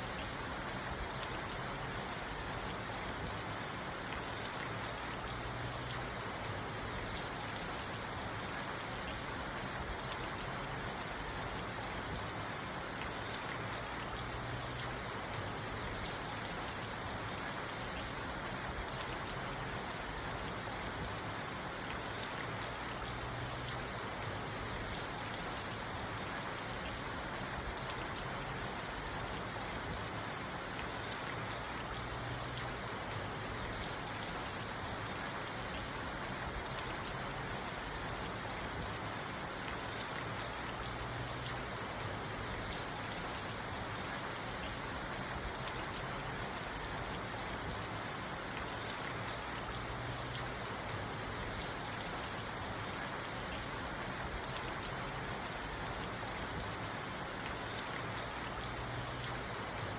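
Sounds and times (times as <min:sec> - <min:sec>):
rain pattering on car roof: 0:00.1 - 0:59.9.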